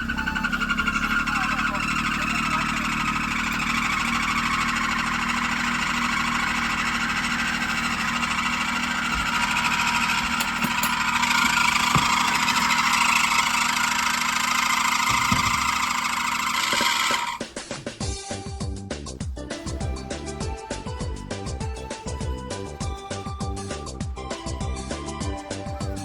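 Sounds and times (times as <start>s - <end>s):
car engine idling: 0.0s - 26.0s
drive belt squealing: 0.0s - 26.0s.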